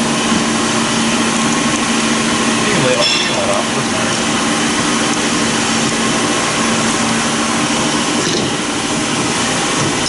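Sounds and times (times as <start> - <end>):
machine hum with low tone: 0.0 - 10.0.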